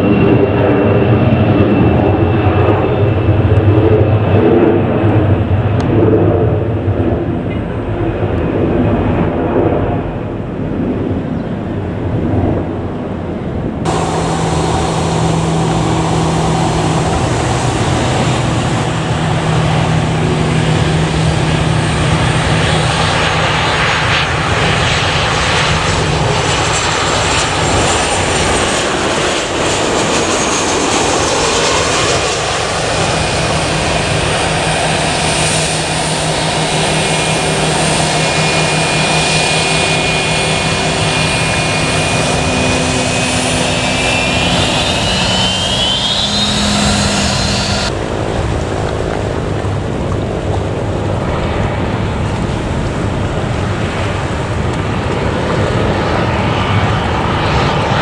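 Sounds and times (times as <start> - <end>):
jet engine roar: 0.0 - 58.0
jet engine whine: 0.0 - 58.0.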